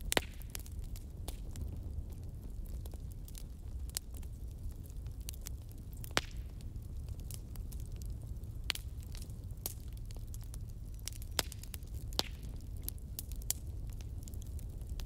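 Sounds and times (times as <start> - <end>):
fire crackling and popping: 0.0 - 15.0
low steady rumble: 0.0 - 15.0.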